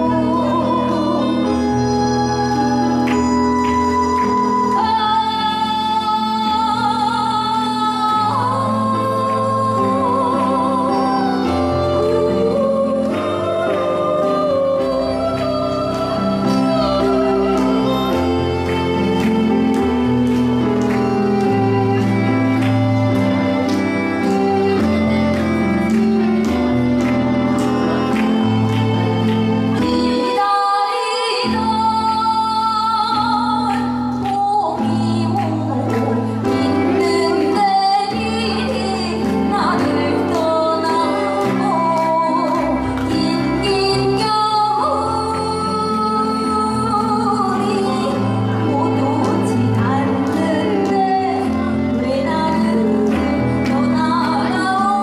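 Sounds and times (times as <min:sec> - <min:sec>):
woman singing a ballad: 0:00.0 - 0:26.6, 0:28.0 - 0:55.0.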